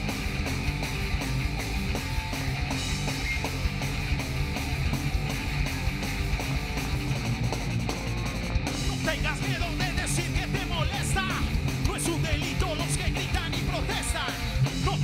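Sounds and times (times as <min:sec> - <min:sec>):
bass guitar: 0:00.0 - 0:15.0
distorted electric guitars: 0:00.0 - 0:15.0
steady drumbeat: 0:00.0 - 0:15.0.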